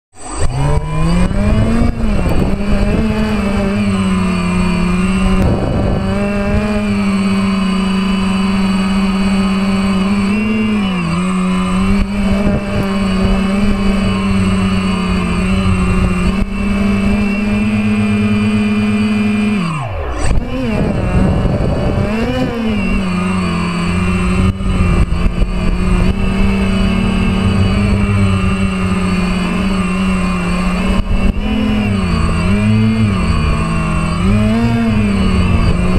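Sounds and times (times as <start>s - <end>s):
quadcopter motors buzzing: 0.1s - 35.9s.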